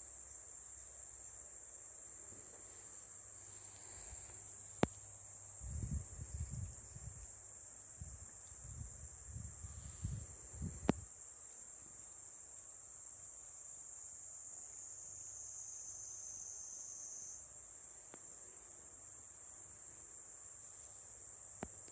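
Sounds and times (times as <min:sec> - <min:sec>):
insects chorus: 0:00.0 - 0:21.9.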